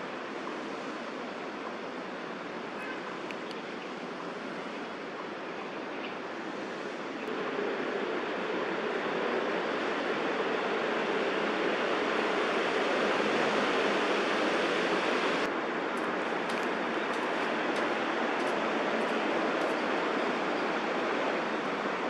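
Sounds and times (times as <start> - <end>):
steady rushing ambient noise: 0.0 - 22.0.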